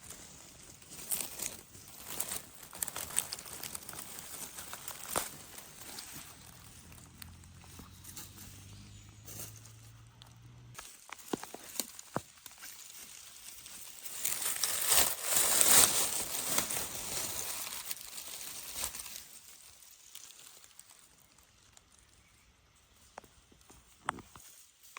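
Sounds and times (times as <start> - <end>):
leaves rustling: 0.0 - 24.9.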